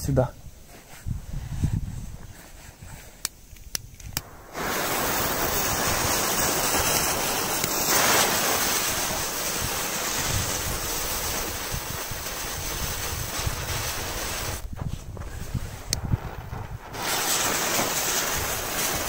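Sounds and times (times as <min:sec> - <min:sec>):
fireworks spraying sparks hissing: 0:00.6 - 0:19.0.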